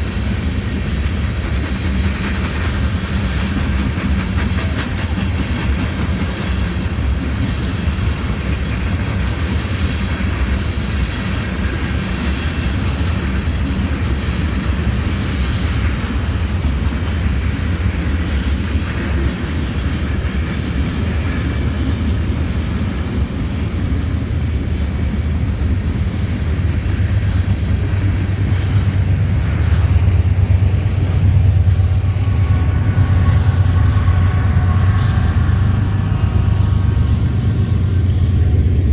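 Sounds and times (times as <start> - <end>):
train rolling past: 0.0 - 38.9.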